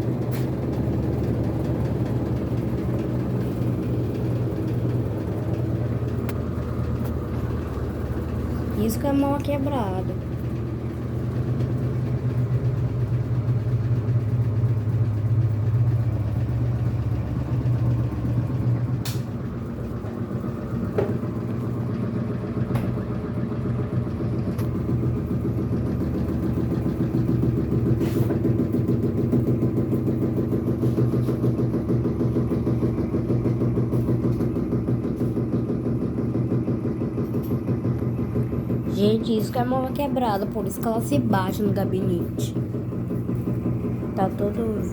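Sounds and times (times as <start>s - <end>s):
washing machine motor hum: 0.0s - 44.9s.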